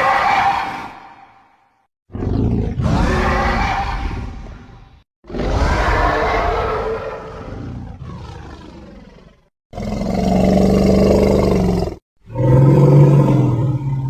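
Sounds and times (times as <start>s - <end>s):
deep creature roars: 2.1s - 14.0s.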